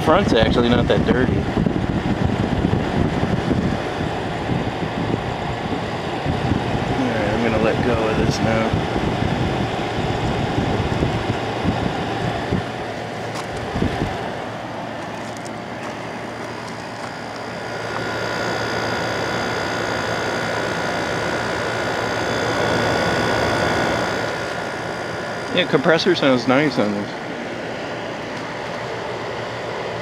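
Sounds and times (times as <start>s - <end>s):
air conditioner humming: 0.0s - 30.0s
steady whine: 0.0s - 30.0s.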